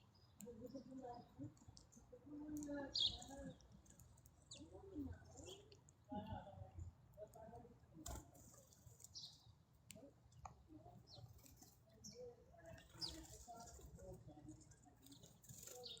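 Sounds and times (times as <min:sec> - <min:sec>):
small bird chirping: 0:00.0 - 0:05.9, 0:08.6 - 0:16.0.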